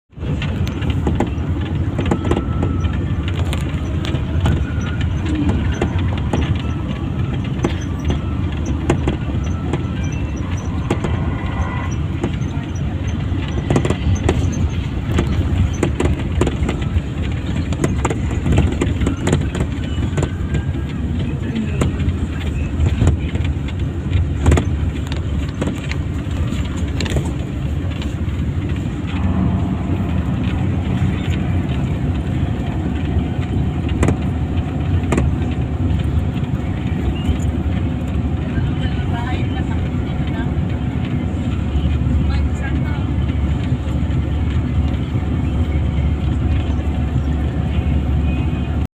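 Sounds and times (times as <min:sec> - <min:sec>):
vehicle engine rumble: 0:00.0 - 0:48.9
light rattles and clicks: 0:00.2 - 0:48.8.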